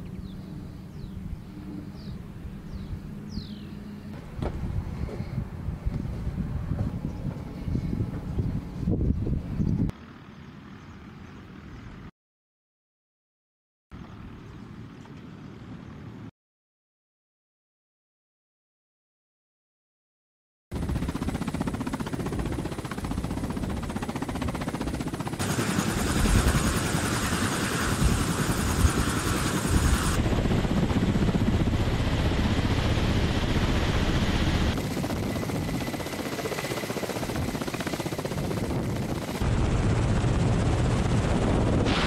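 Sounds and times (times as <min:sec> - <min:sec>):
helicopter rotors and turbines: 0:00.0 - 0:12.1, 0:14.0 - 0:16.3, 0:20.7 - 0:42.0.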